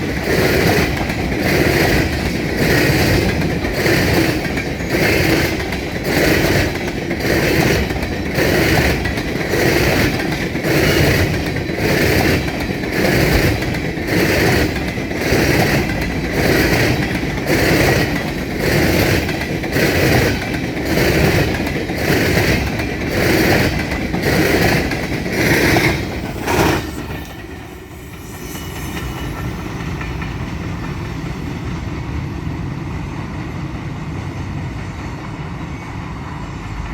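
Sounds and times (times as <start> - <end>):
train wheels clacking over rail joints: 0.0 - 32.3.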